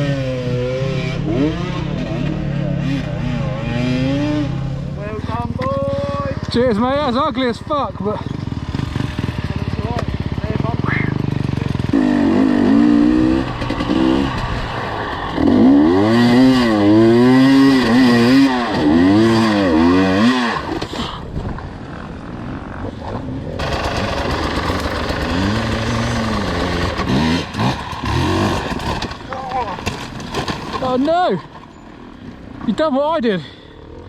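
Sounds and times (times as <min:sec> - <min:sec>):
dirt bike engine revving: 0:00.0 - 0:29.2.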